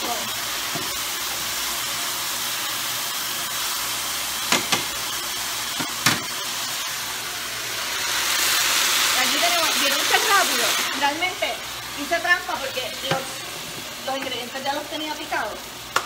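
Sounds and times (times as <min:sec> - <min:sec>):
stir fry sizzling in pan: 0:00.0 - 0:16.0.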